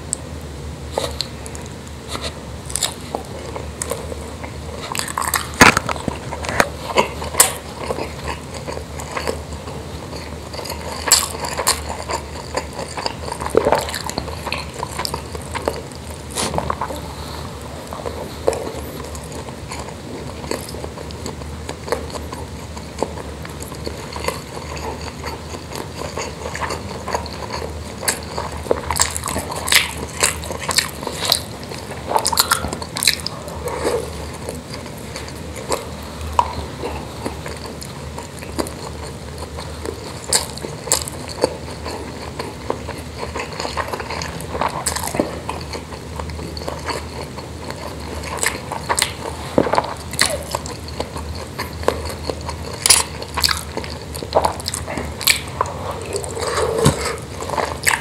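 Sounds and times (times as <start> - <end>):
chewing and mouth smacking: 0.9 - 58.0.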